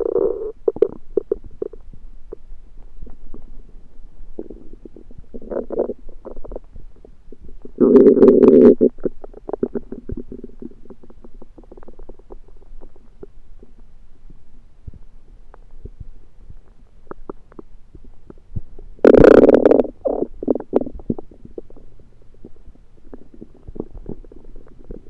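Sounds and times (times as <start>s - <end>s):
stomach gurgling: 0.0s - 25.0s.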